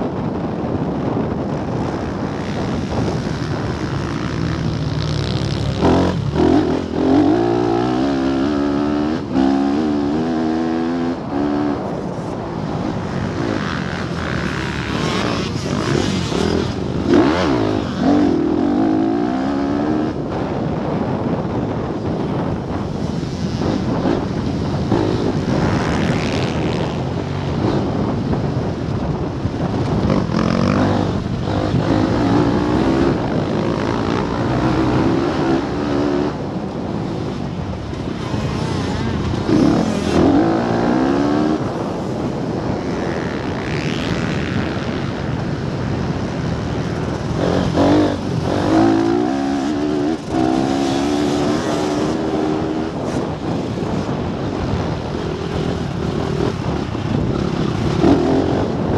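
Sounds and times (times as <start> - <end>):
motorbike engine accelerating: 1.0 - 58.9.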